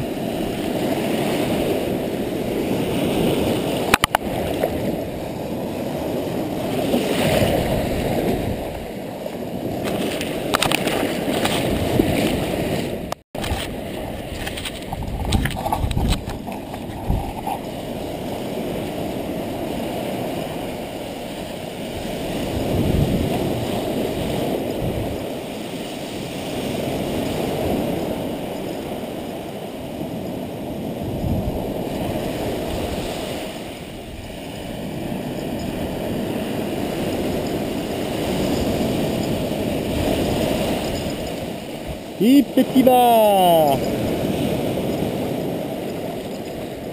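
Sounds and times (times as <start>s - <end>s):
surf washing up beach: 0.0s - 46.9s.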